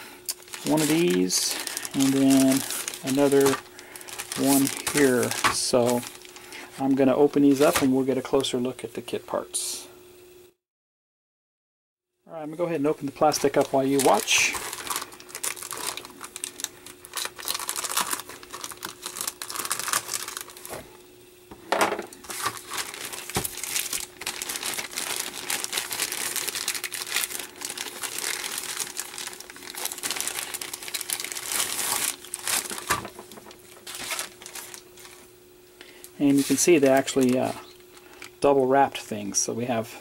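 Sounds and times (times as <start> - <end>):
faint steady hum: 0.0 - 10.6, 12.2 - 40.0
plastic bag crinkling: 0.2 - 8.1, 12.5 - 21.0, 22.1 - 35.3, 36.0 - 38.5.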